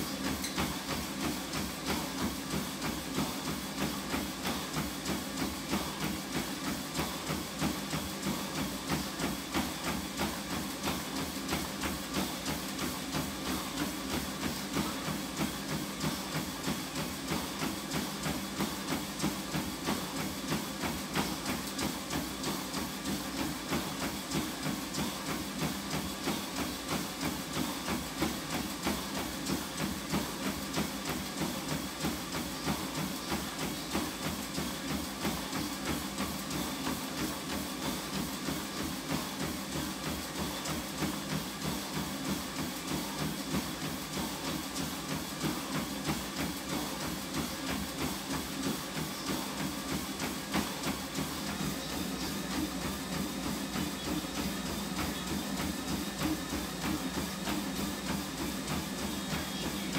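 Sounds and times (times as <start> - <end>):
feet striking treadmill belt: 0.0 - 59.9
treadmill running noise: 0.0 - 59.9.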